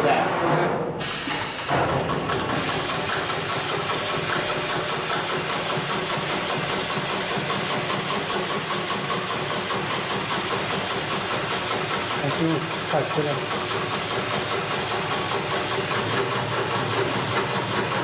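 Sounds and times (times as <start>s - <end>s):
machine hiss: 1.0s - 1.8s, 2.5s - 18.0s.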